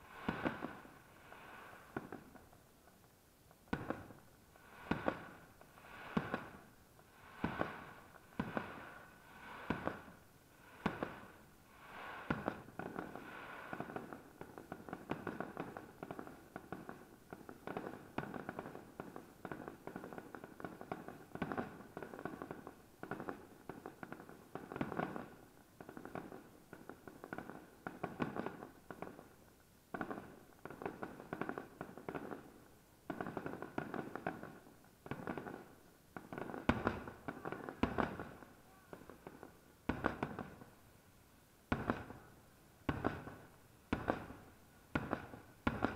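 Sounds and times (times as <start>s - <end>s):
crackling firework pops: 0.0s - 40.8s, 41.7s - 45.9s.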